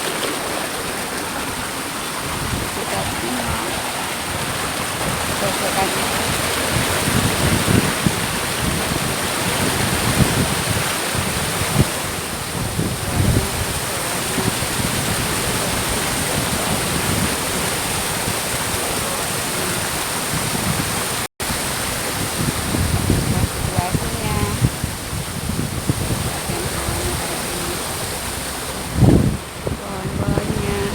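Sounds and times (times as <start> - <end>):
waterfall rushing: 0.0 - 30.9
wind buffeting microphone: 0.0 - 30.9.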